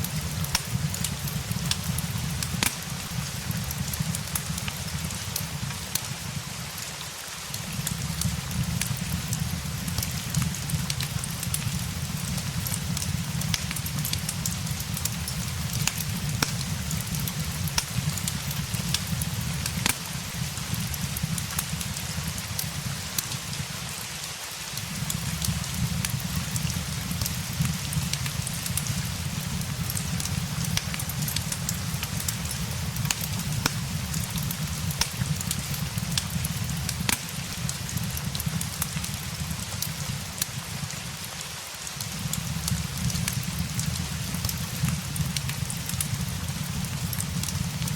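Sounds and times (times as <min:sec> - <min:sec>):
steady rain: 0:00.0 - 0:47.9
wood fire crackling: 0:00.0 - 0:47.9.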